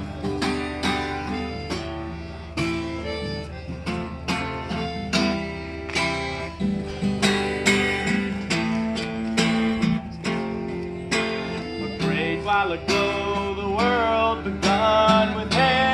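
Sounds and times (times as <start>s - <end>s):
acoustic guitar playing: 0.0s - 15.9s.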